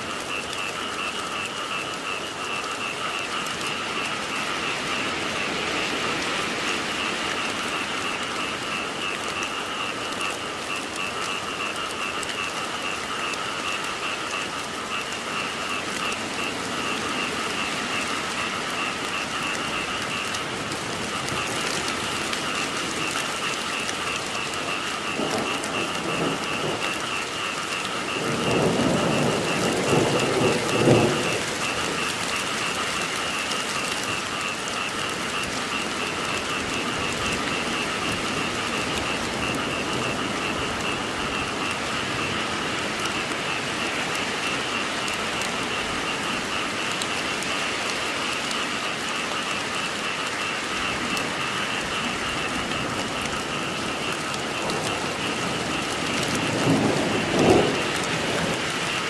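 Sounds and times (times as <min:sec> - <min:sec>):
frog chorus trilling: 0:00.0 - 0:59.0
steady rain: 0:00.0 - 0:59.0.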